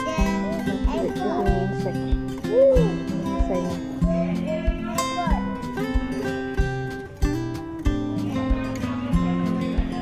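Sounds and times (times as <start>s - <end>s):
background music with guitar: 0.0s - 10.0s.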